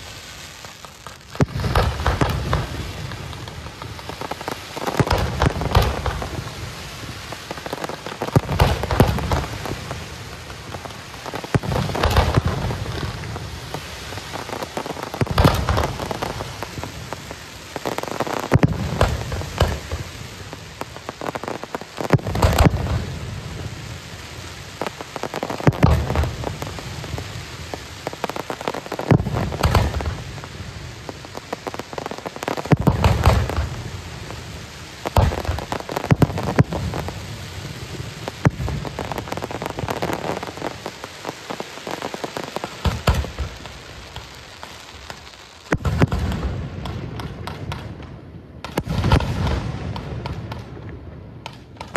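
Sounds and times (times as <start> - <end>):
fireworks bangs: 0.0 - 51.9
fireworks crackle: 0.0 - 51.9.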